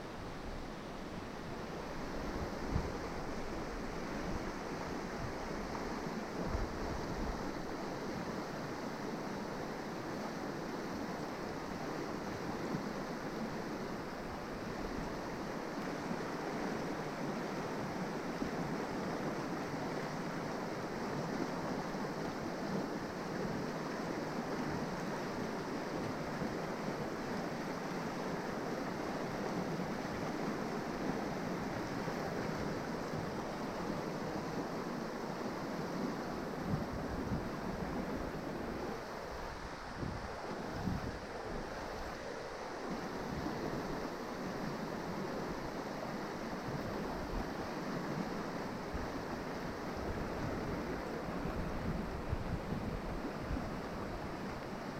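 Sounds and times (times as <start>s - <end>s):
river water flowing: 0.0s - 54.9s.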